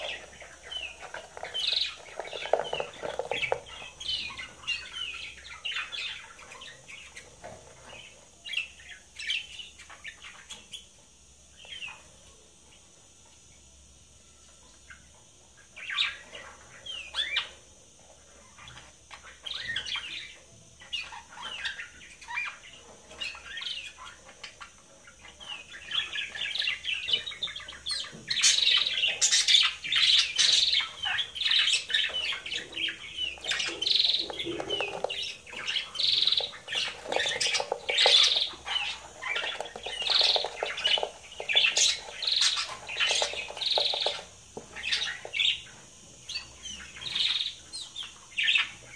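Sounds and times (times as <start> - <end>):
budgerigars chirping and chattering: 0.0 - 12.2, 14.8 - 48.9.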